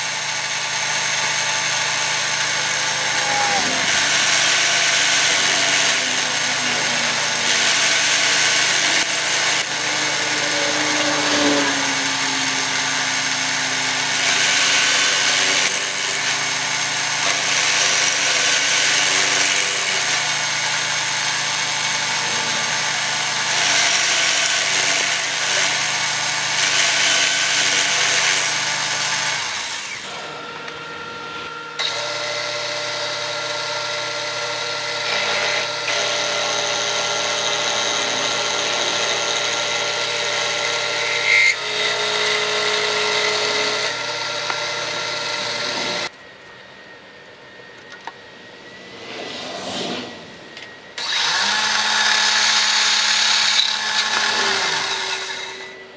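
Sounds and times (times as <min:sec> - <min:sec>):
milling machine cutting steel: 0:00.0 - 0:46.1, 0:50.5 - 0:55.9.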